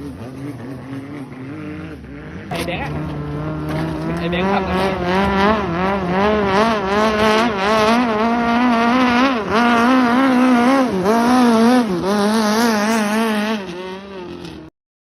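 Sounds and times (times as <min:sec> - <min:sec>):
boat engine at high revs: 0:00.0 - 0:14.7.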